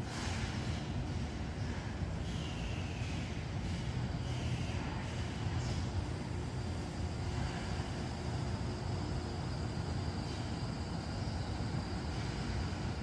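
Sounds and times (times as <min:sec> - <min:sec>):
wood stove fire rumbling: 0:00.0 - 0:13.0.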